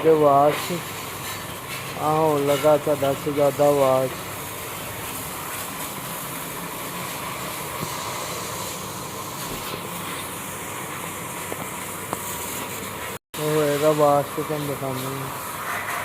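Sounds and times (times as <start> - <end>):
water jet spraying: 0.0 - 16.0.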